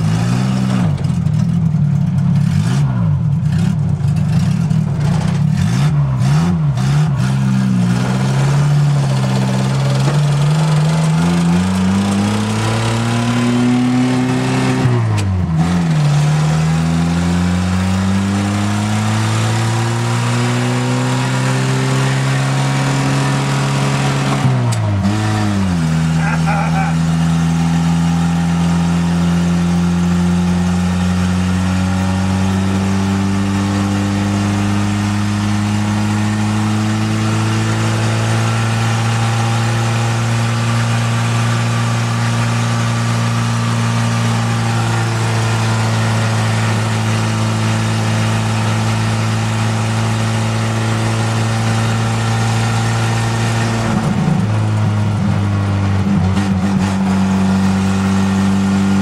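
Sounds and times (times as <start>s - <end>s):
car engine running inside cab: 0.0s - 59.0s.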